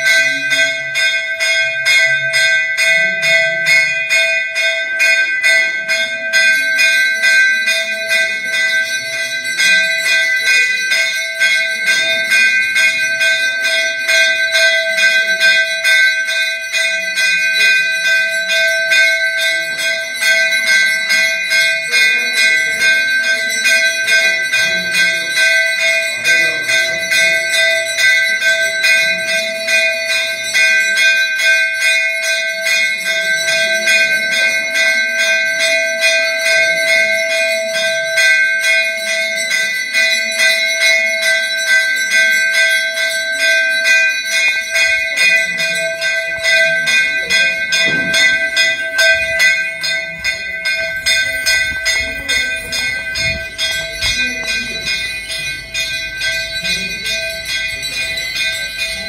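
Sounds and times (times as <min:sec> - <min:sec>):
bell rung rapidly: 0:00.0 - 0:59.0
low murmur of people: 0:00.0 - 0:59.0.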